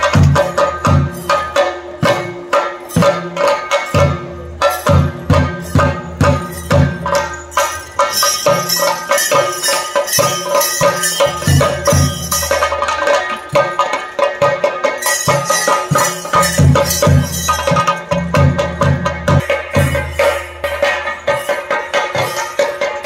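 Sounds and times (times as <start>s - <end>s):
clashing cymbals: 0.0s - 23.0s
drums beaten in fast rhythm: 0.0s - 23.0s.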